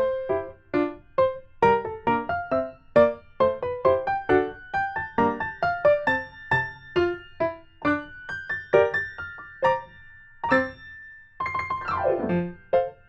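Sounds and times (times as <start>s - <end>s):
piano-like keyboard melody: 0.0s - 13.0s.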